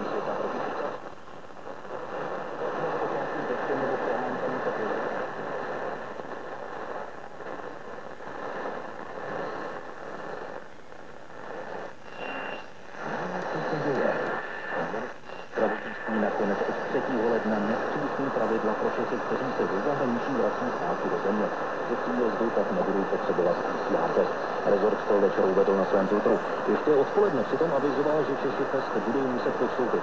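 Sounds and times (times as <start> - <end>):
faint muffled radio voices: 0.0 - 30.0
radio static and hiss: 0.0 - 30.0.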